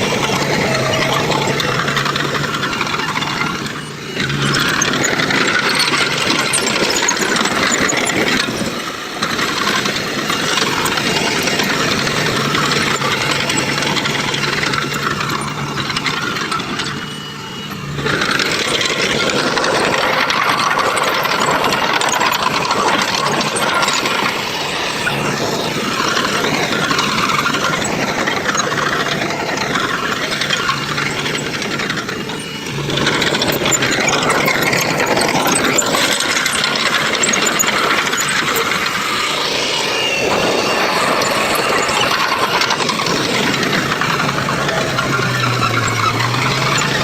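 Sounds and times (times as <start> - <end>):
diesel machinery engine drone: 0.0 - 47.0.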